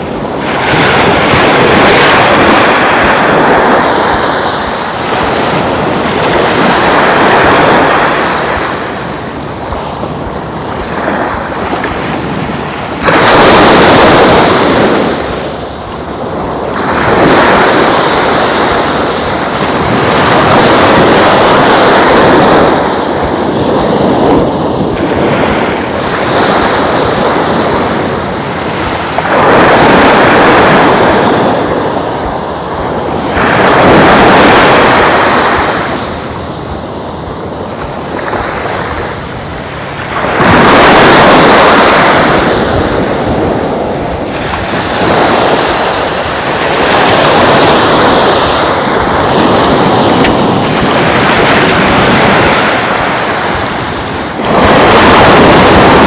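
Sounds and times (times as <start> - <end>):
surf breaking on beach: 0.0 - 56.0.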